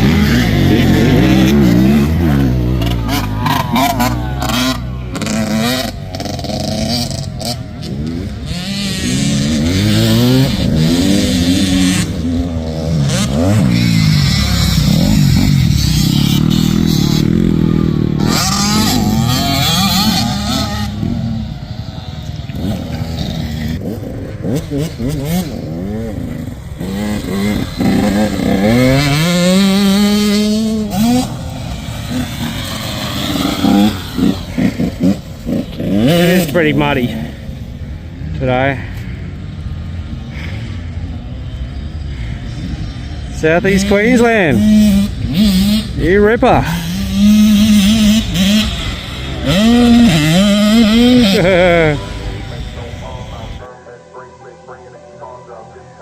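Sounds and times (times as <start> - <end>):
motocross bike engines revving: 0.0 - 53.7.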